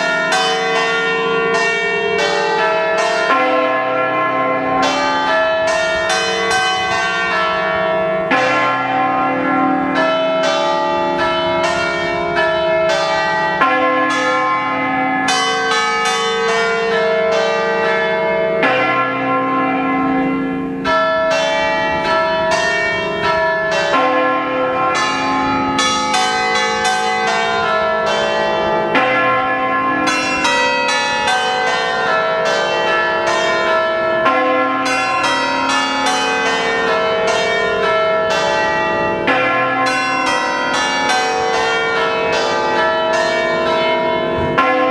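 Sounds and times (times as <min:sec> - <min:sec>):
church bells ringing melody: 0:00.0 - 0:44.9.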